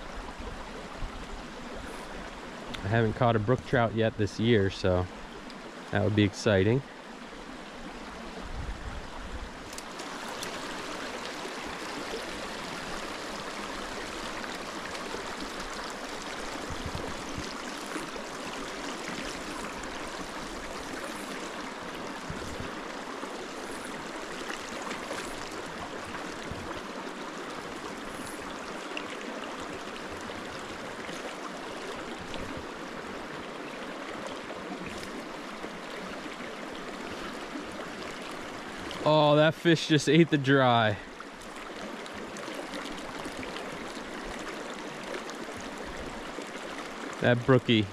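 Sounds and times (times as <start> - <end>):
creek flowing: 0.0 - 47.9.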